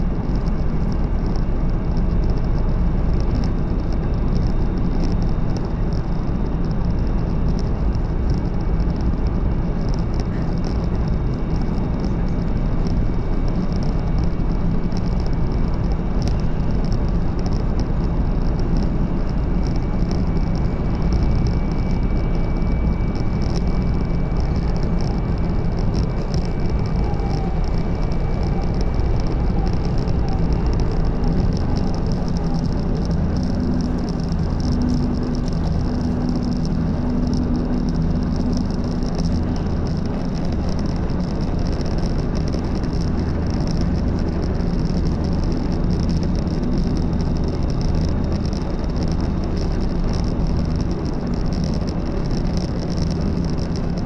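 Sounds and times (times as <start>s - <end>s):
train running rumble inside car: 0.0s - 54.0s.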